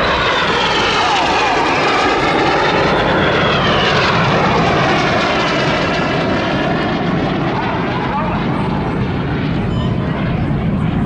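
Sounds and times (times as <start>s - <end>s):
jet engines roaring past: 0.0s - 11.0s
jet whine falling in pitch: 0.0s - 11.0s.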